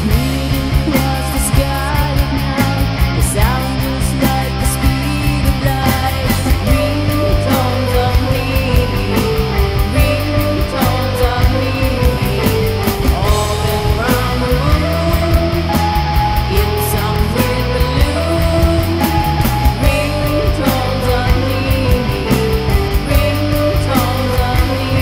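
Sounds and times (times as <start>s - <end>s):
rock band playing: 0.0s - 25.0s
woman singing: 0.0s - 25.0s.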